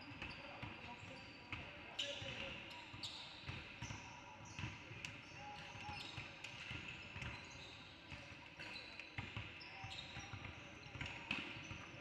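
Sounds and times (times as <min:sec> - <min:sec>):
sneakers squeaking on floor: 0:00.0 - 0:12.0
basketball bouncing on court: 0:00.1 - 0:12.0.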